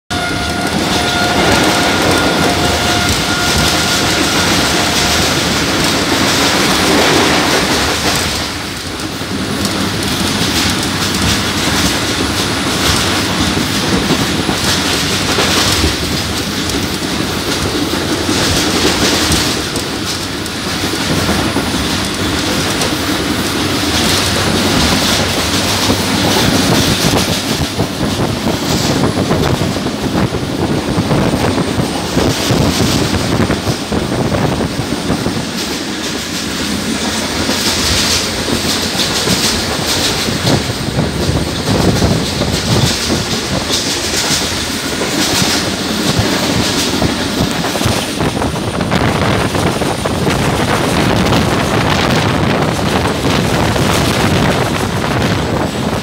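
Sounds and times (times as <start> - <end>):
train wheel and air rush: 0.0 - 56.0
wheels clacking over rail joints: 0.1 - 56.0.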